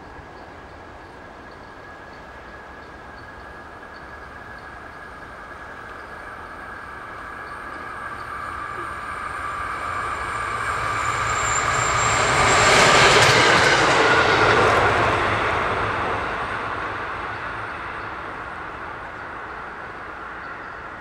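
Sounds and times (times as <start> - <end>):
rail machine passing with whine: 0.0 - 21.0.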